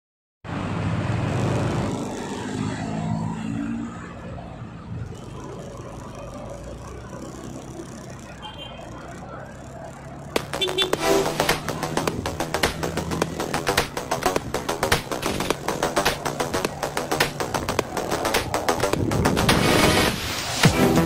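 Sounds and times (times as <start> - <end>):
city traffic: 0.4 - 21.0
motor scooter accelerating: 0.6 - 21.0.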